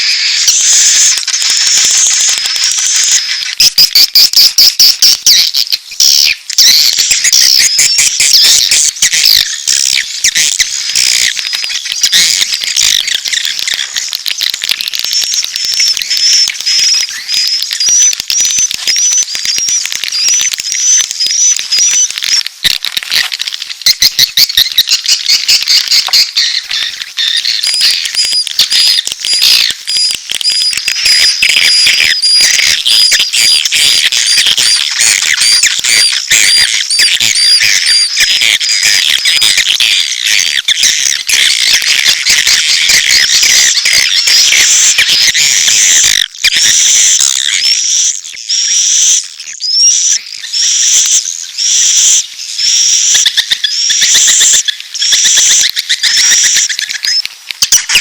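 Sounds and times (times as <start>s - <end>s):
swiftlets twittering with clicks: 0.0s - 58.0s.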